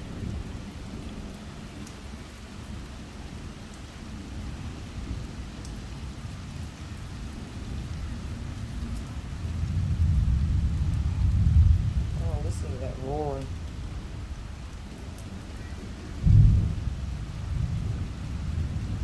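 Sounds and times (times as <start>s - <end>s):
low rumble of thunder: 0.0s - 19.0s
steady rain falling: 0.0s - 19.0s.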